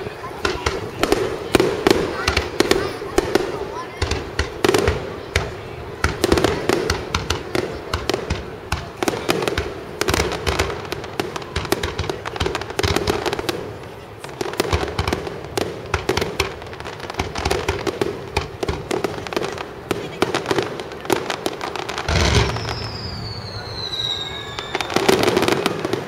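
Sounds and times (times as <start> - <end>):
firework crackling: 0.0 - 26.0
firework shells booming: 0.0 - 26.0.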